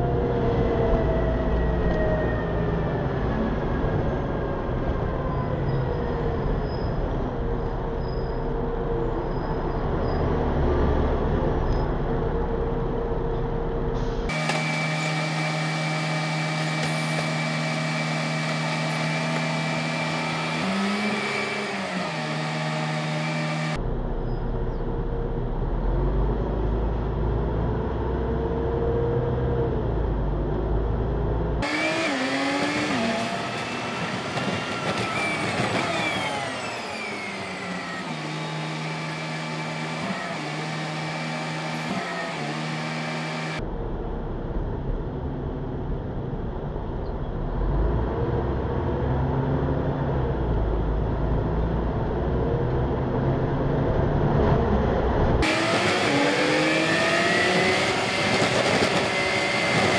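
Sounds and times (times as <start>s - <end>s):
vehicle engine idling and accelerating: 0.0s - 59.9s.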